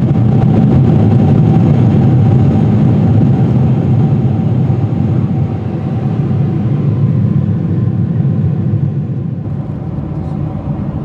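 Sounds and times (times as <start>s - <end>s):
airliner cabin airflow and engine drone: 0.0s - 11.0s.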